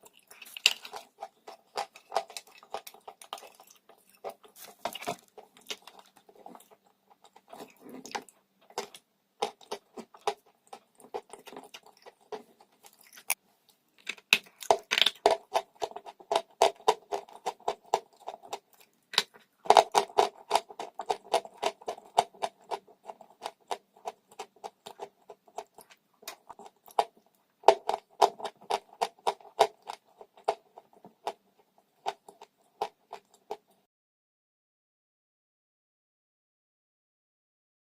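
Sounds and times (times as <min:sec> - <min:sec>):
chewing crunchy chalk: 0:00.0 - 0:33.8.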